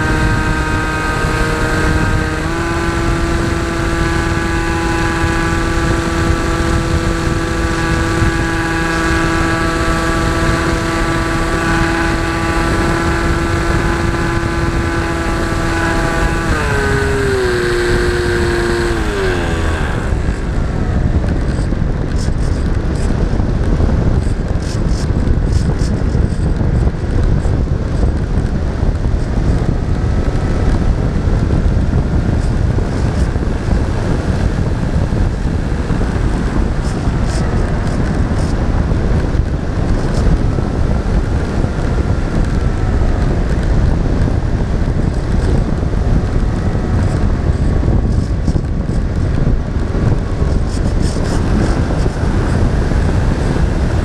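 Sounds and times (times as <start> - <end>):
model aircraft motor whine: 0.0 - 23.4, 25.6 - 54.0
wind buffeting microphone: 0.0 - 54.0.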